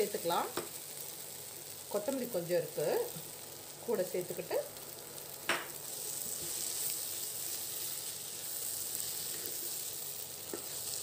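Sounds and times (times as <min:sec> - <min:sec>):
stir-fry sizzling in a pan: 0:00.0 - 0:11.0.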